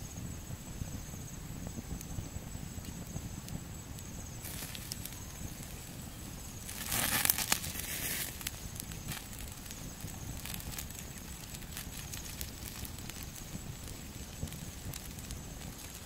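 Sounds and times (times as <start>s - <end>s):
rustling hiss: 0.0s - 16.0s
wood fire crackling: 0.0s - 16.0s.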